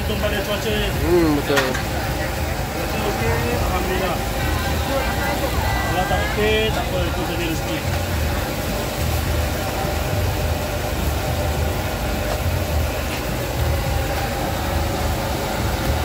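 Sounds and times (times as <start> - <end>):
low steady rumble: 0.0 - 16.0
patties sizzling in hot oil: 0.0 - 16.0.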